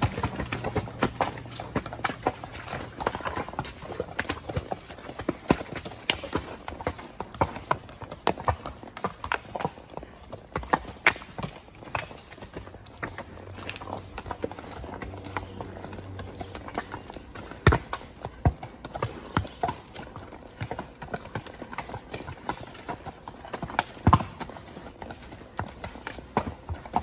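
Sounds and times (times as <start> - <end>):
horse hoofbeats on dirt trail: 0.0 - 27.0.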